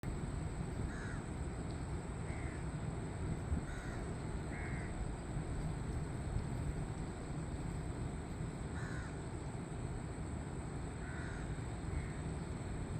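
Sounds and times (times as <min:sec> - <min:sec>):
low background rush: 0:00.0 - 0:12.9.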